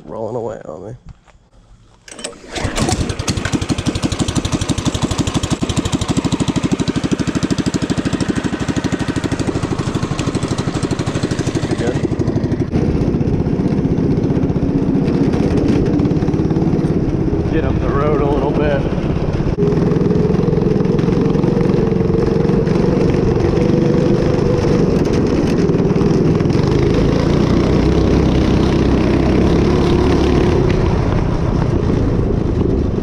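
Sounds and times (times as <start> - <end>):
go-kart engine running: 2.1 - 33.0.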